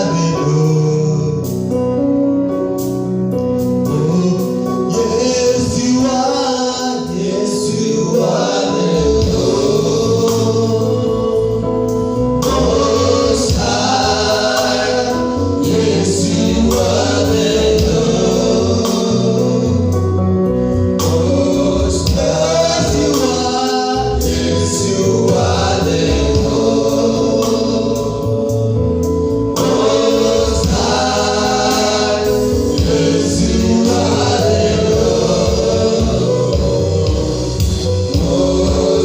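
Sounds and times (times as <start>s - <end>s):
choir singing gospel music: 0.0s - 39.0s
deep bass line: 0.0s - 39.0s.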